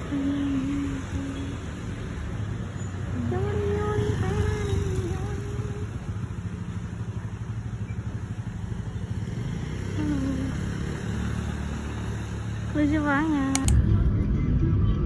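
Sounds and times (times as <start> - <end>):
street traffic: 0.0 - 15.0
vehicle engine rumbling at low revs: 0.0 - 15.0.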